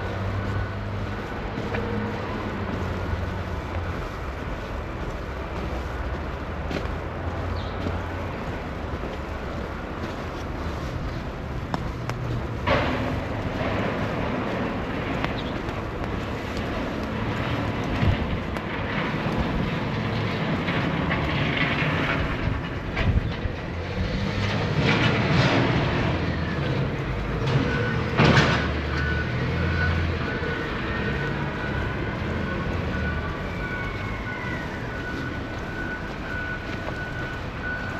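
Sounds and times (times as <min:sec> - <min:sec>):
heavy vehicle rumbling: 0:00.0 - 0:37.9.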